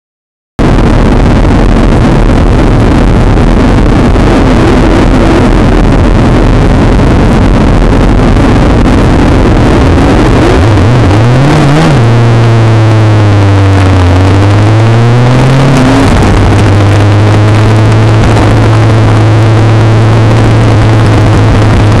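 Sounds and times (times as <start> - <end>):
motorcycle engine revving: 0.6 - 22.0
motorcycle engines running: 0.6 - 22.0.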